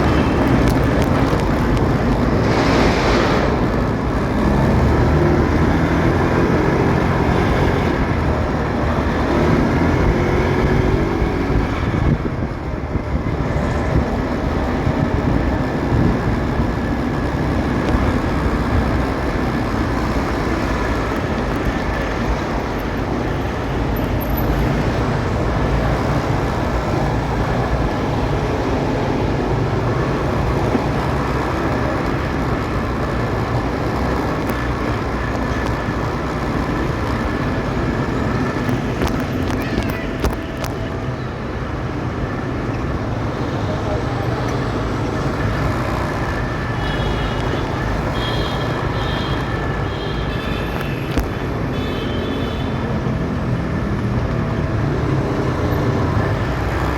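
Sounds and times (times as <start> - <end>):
road traffic noise: 0.0 - 56.9.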